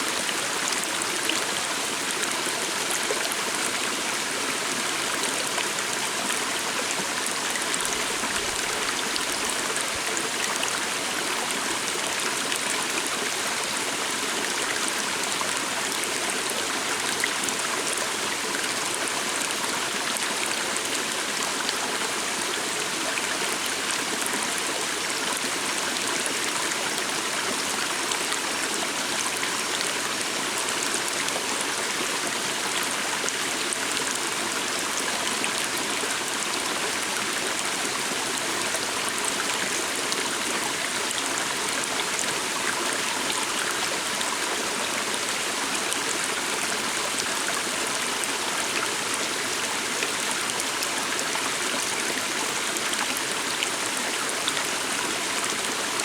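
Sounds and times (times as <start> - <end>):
small stream flowing: 0.0 - 56.0.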